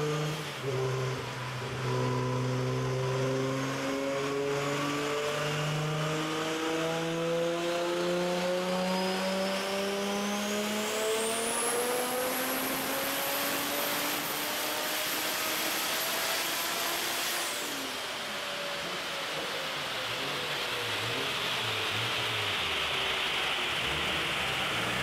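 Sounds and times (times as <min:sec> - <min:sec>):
car engine revving under load: 0:00.0 - 0:25.0
high turbo whine: 0:00.0 - 0:25.0.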